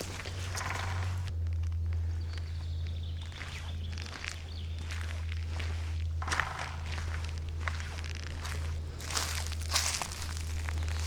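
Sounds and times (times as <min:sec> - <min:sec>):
footsteps crunching on dry leaves: 0:00.0 - 0:11.0
steady low hum: 0:00.0 - 0:11.0.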